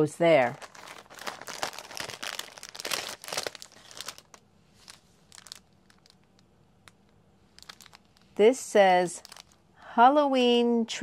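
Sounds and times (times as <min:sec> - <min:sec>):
plastic packaging crinkling: 0:00.4 - 0:09.7.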